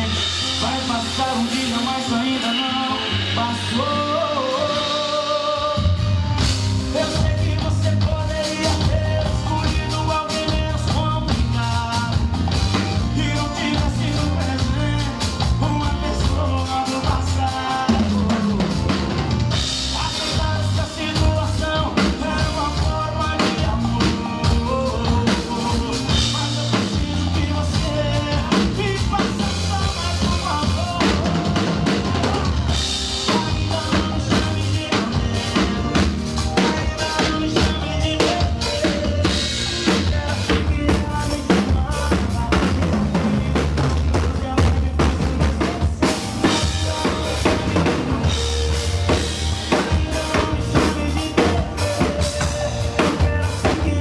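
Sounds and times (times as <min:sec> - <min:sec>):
bass drum and snare: 0:00.0 - 0:54.0
recorded band music: 0:00.0 - 0:54.0.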